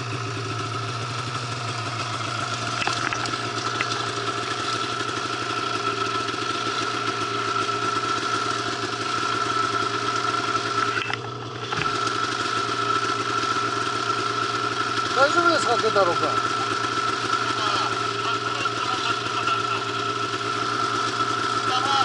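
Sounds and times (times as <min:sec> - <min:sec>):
snowmobile engine idling: 0:00.0 - 0:22.0.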